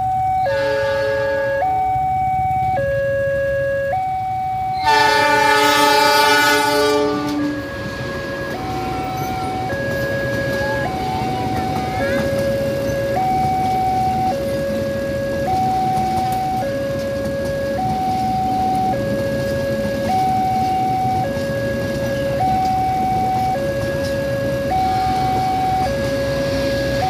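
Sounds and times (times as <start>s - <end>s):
train rumbling over crossing: 0.0s - 4.0s, 4.6s - 27.0s
two-tone crossing alarm: 0.0s - 27.0s.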